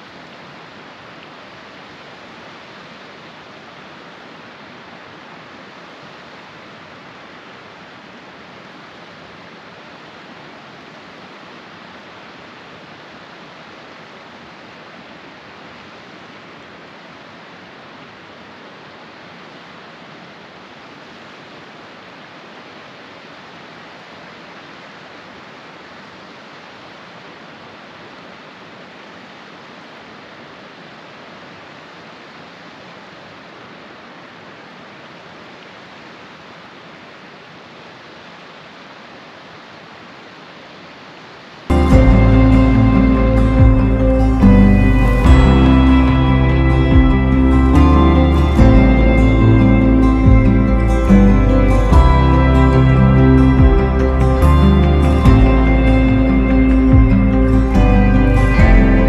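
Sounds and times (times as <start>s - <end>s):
creek cascading among rocks: 0.0s - 59.0s.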